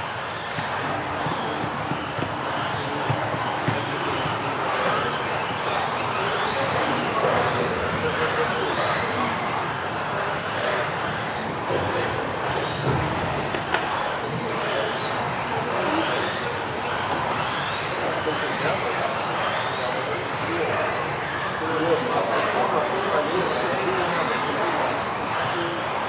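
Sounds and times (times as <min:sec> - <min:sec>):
rc car motors whining: 0:00.0 - 0:26.0.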